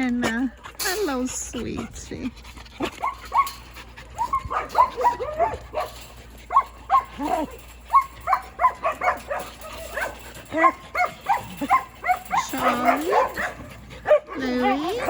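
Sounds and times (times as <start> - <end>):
dogs barking: 2.8 - 15.0.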